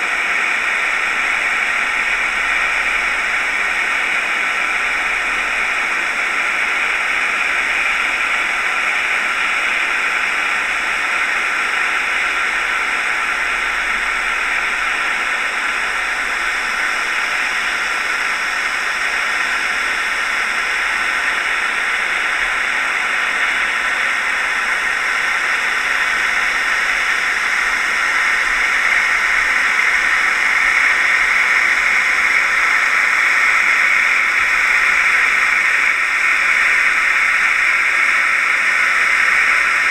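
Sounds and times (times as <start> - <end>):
underwater rushing water hiss: 0.0 - 39.9.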